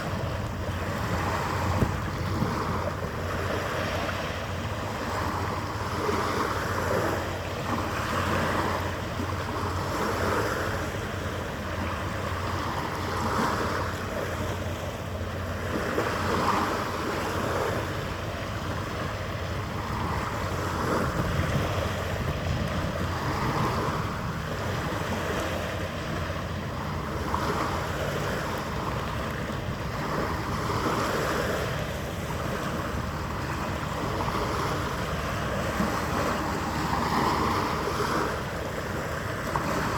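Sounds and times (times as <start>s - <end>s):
harbour water lapping: 0.0s - 39.9s
wind rumbling on microphone: 0.0s - 39.9s.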